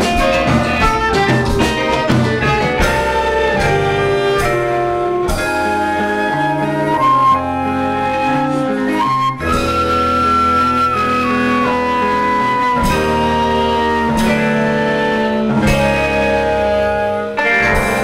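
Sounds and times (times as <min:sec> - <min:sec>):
live jazz band playing: 0:00.0 - 0:18.0.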